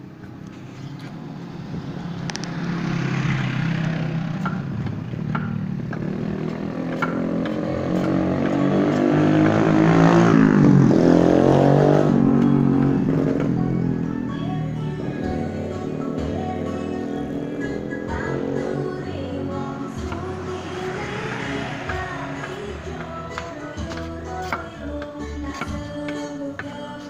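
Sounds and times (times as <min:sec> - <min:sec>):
vehicle engine passing by: 0:00.5 - 0:25.0.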